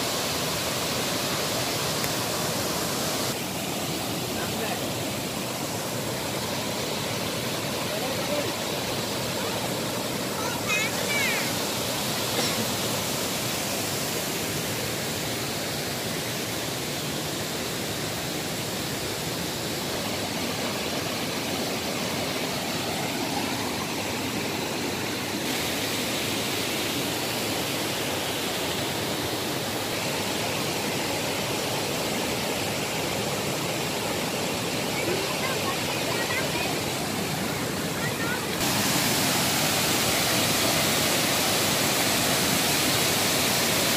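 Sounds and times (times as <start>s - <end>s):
water cascading over rocks: 0.0s - 43.9s.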